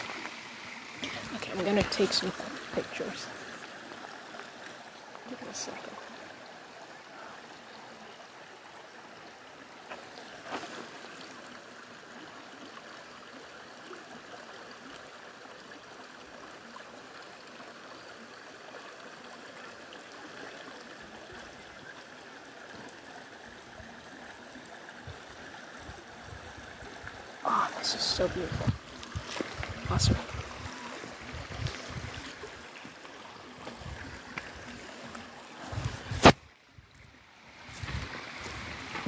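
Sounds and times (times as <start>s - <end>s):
stream and waterfall rushing: 0.0s - 39.0s.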